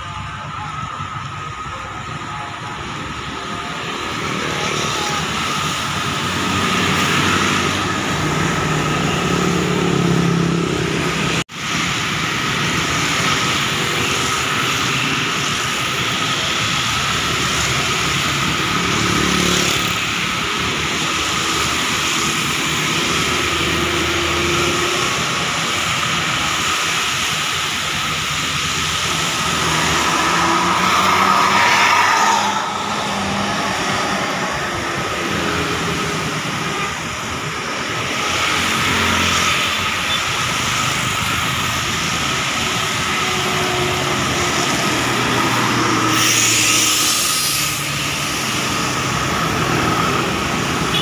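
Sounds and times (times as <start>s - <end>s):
bus passing close: 0.0s - 51.0s
vehicles driving past: 0.0s - 51.0s
tyres hissing on wet pavement: 3.8s - 51.0s.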